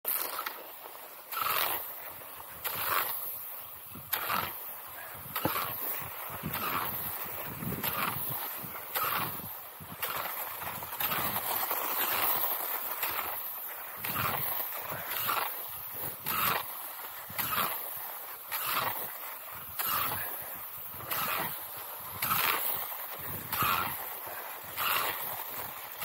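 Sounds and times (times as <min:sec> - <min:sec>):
ski poles planting: 0:00.1 - 0:26.0
skis swishing on snow: 0:00.1 - 0:26.0.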